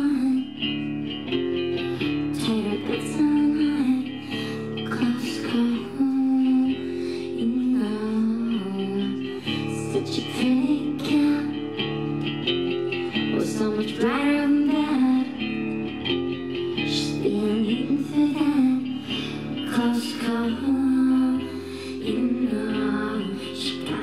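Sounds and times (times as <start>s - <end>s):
electric guitar: 0.0s - 24.0s
woman singing: 0.0s - 24.0s.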